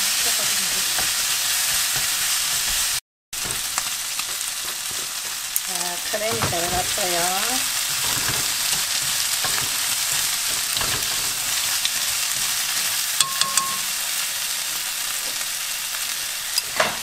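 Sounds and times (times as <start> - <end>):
chopsticks stirring in a wok: 0.0 - 17.0
food sizzling in oil: 0.0 - 17.0.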